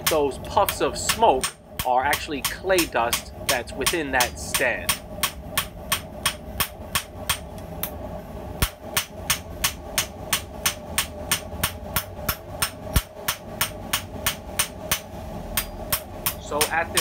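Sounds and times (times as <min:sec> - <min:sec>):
hammer striking steel on anvil: 0:00.0 - 0:07.5, 0:08.6 - 0:17.0.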